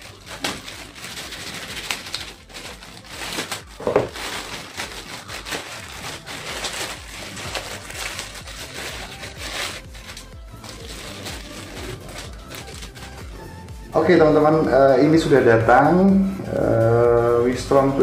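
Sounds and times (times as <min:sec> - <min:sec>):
plastic wrapping crinkling: 0:00.0 - 0:15.2.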